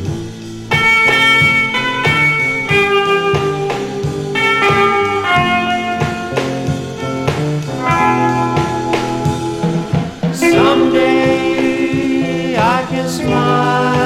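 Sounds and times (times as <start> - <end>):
bass: 0.0 - 14.0
drums: 0.0 - 14.0
lead guitar melody: 0.0 - 14.0.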